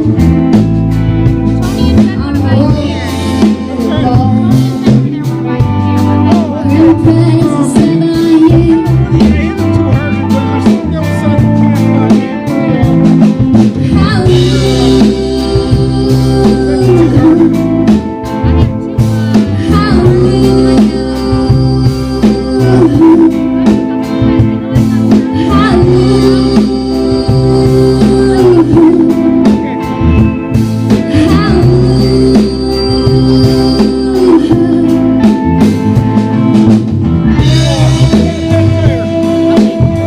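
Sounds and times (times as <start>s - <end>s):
bass guitar: 0.0s - 40.0s
electric guitar: 0.0s - 40.0s
steady drum beat: 0.0s - 40.0s
person singing: 1.5s - 36.6s, 37.2s - 40.0s.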